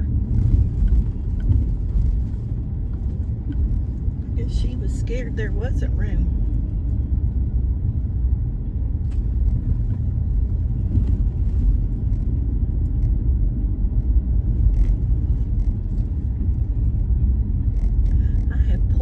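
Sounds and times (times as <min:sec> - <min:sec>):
car road noise rumble: 0:00.0 - 0:19.0.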